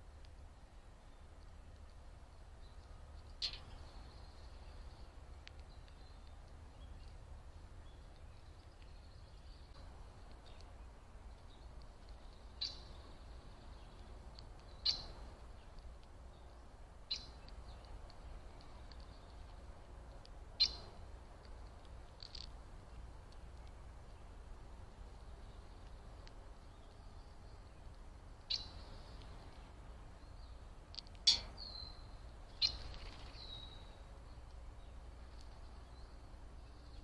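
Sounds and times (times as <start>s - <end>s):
faint low rumble: 0.0s - 37.0s
small bird chip calls: 0.1s - 37.0s.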